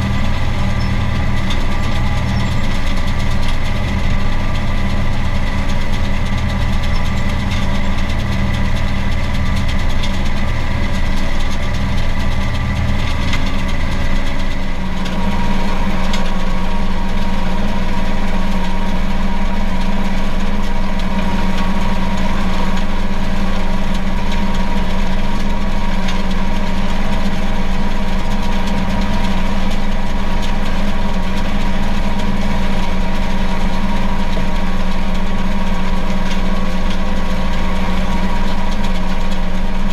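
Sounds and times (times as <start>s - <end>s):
tractor diesel engine from cab: 0.0s - 39.9s.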